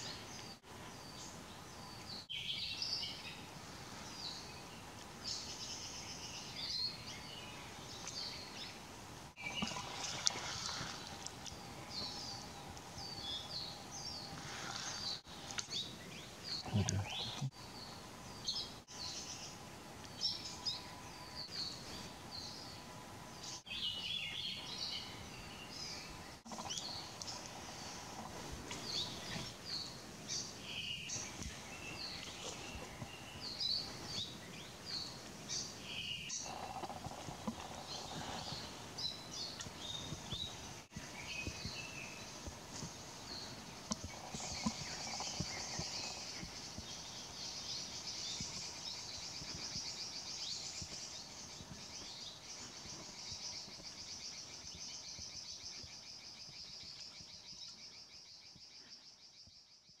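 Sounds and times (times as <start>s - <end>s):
birds chirping: 0.0s - 59.8s.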